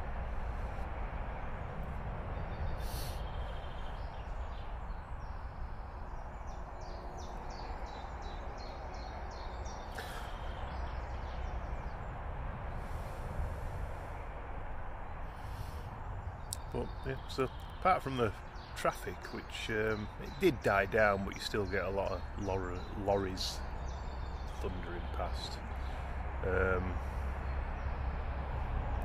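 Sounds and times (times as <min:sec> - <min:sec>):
motorway traffic rumble: 0:00.0 - 0:29.0
small bird singing: 0:01.4 - 0:14.0, 0:15.1 - 0:29.0.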